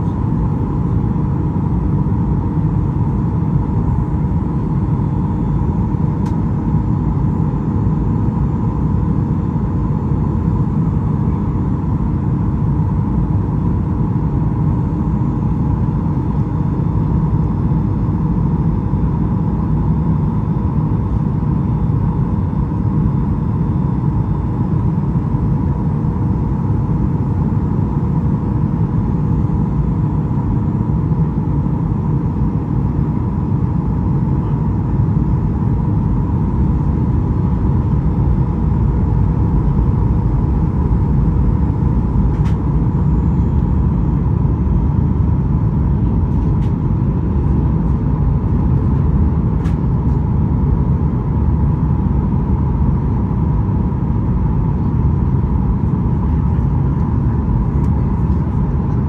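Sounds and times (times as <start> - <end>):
airplane cabin rumble: 0.0 - 59.0
steady high hum: 0.0 - 59.0.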